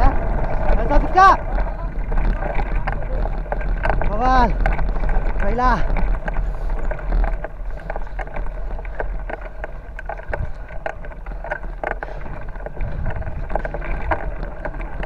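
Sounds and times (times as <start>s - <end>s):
bicycle rolling on dirt track: 0.0s - 15.0s
bike clicks and rattles: 0.0s - 15.0s
wind rumbling on microphone: 0.0s - 15.0s.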